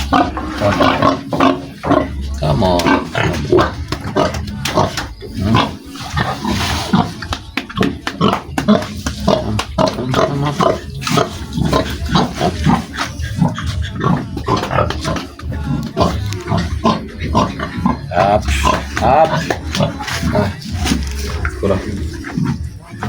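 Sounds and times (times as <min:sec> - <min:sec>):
pigs grunting: 0:00.0 - 0:23.0.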